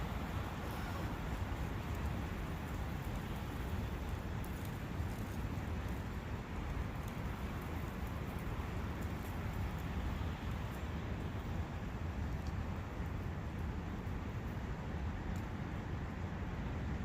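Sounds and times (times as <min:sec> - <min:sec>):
faint drips and splashes: 0:00.0 - 0:14.6
brook rushing water: 0:00.0 - 0:15.0.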